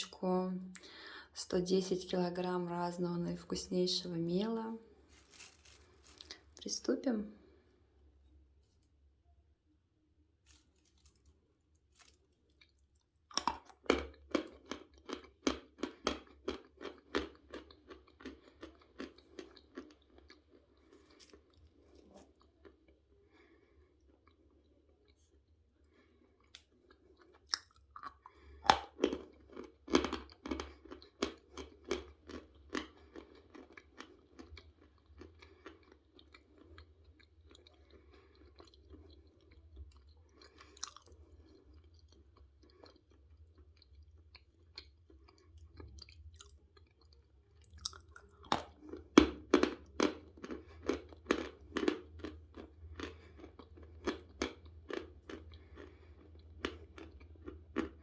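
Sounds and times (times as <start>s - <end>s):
chalk crunching and chewing: 5.0s - 6.5s, 10.4s - 58.0s.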